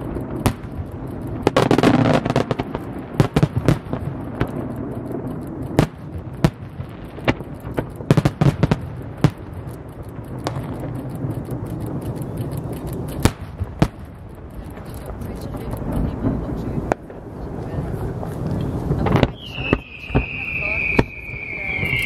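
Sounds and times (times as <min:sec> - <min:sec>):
fireworks bangs: 0:00.0 - 0:22.0
low rumble: 0:00.0 - 0:22.0.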